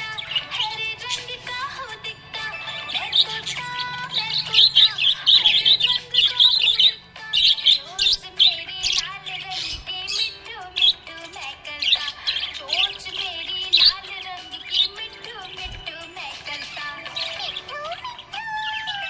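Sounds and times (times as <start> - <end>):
budgerigar chattering: 0.0 - 19.0.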